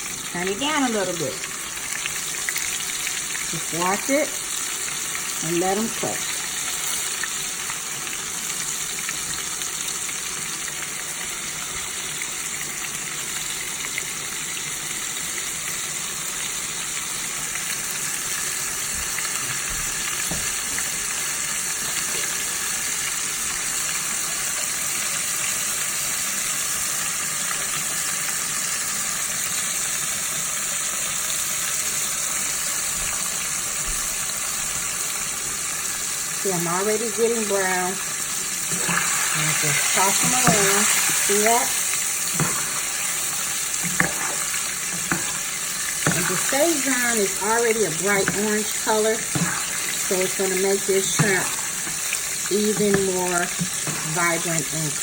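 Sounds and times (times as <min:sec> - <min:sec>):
shrimp sizzling in hot oil: 0:00.0 - 0:55.0.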